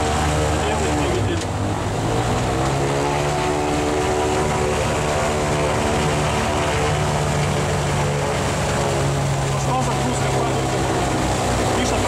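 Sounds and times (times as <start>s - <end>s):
propeller aircraft engines running: 0.0s - 12.0s.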